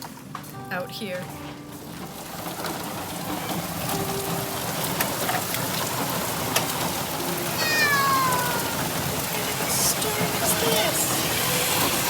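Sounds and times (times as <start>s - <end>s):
raindrops ticking close by: 0.0s - 12.0s
heavy rain pouring: 1.0s - 12.0s.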